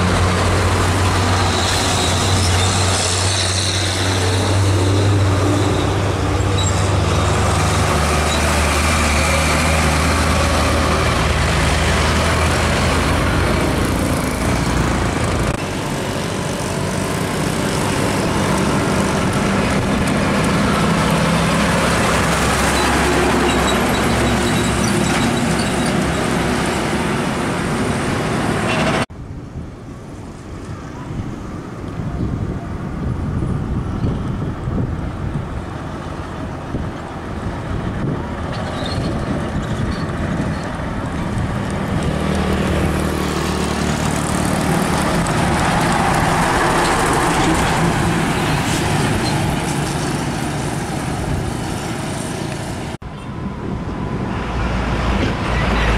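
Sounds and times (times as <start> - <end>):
diesel trucks driving past: 0.0 - 29.1, 30.2 - 55.9
road traffic hum: 0.0 - 55.9.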